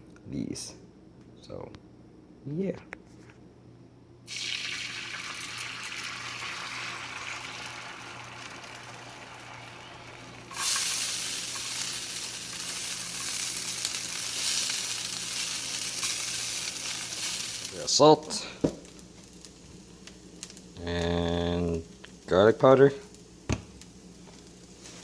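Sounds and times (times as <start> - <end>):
food sizzling in a pan: 4.3 - 25.0.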